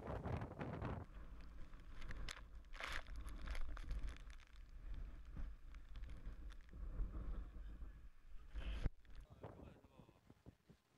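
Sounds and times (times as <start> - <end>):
wind rumble on microphone: 0.0 - 10.8
handling noise crackles and rustles: 0.1 - 9.5.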